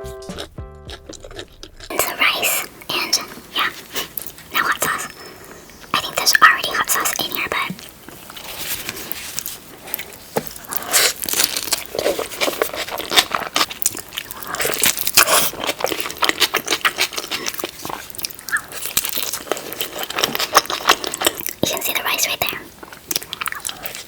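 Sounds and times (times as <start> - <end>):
person chewing with wet mouth clicks: 0.3 - 8.0, 9.9 - 24.0.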